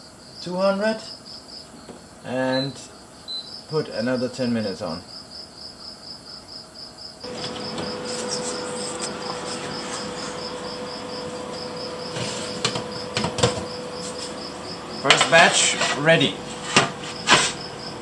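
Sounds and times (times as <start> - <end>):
insect chirping: 0.0 - 15.5, 16.2 - 18.0
steady hum and hiss: 0.0 - 18.0.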